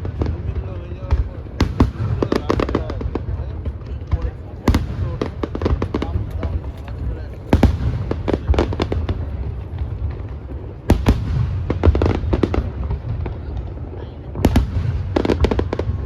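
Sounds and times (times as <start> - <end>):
firework bangs: 0.0 - 16.0
firework crackling: 0.0 - 16.0.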